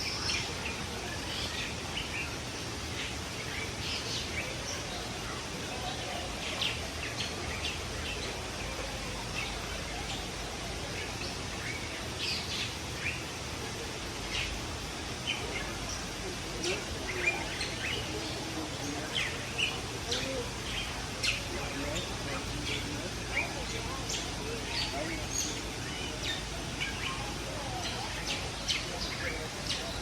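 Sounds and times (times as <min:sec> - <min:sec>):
caged birds chirping: 0:00.0 - 0:30.0.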